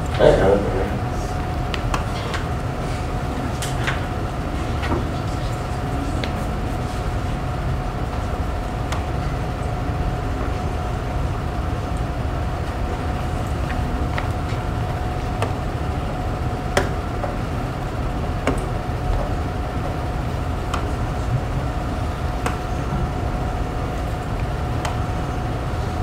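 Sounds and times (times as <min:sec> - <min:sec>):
faint constant hum: 0:00.0 - 0:26.0
low room rumble: 0:00.0 - 0:26.0.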